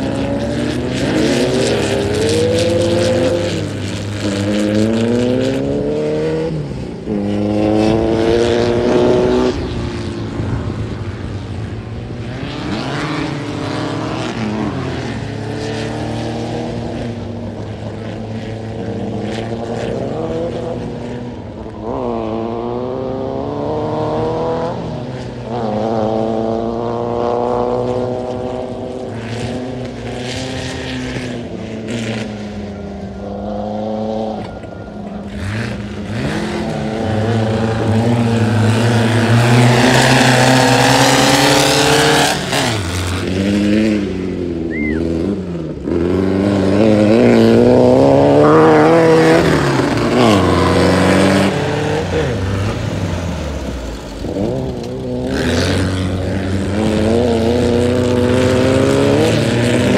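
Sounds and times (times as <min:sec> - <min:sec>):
buggy engine revving: 0:00.0 - 0:59.9.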